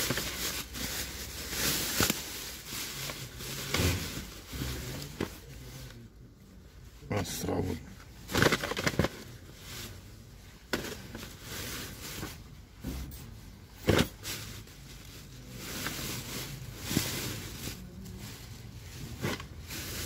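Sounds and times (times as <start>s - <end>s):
plastic bags rustling: 0.0s - 6.4s, 7.2s - 20.0s.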